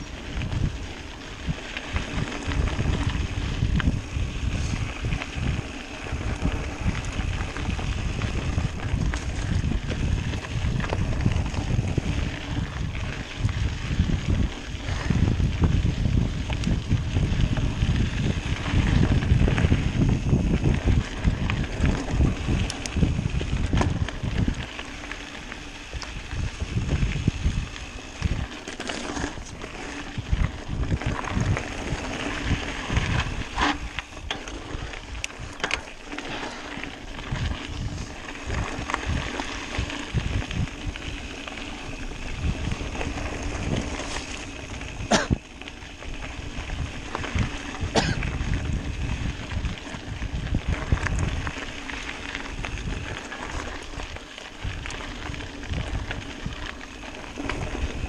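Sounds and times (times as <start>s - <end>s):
bike rattling: 0.0s - 58.0s
bike tyres rumbling on dirt: 0.0s - 58.0s
wind buffeting microphone: 0.0s - 58.0s.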